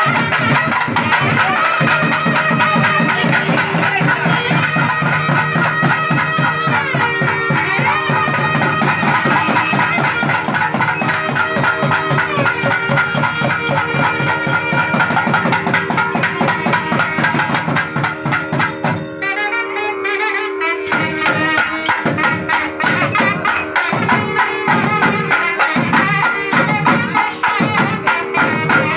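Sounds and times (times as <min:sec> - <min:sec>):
loud drumming: 0:00.0 - 0:19.3, 0:20.9 - 0:28.9
wind instrument melody: 0:00.0 - 0:28.9.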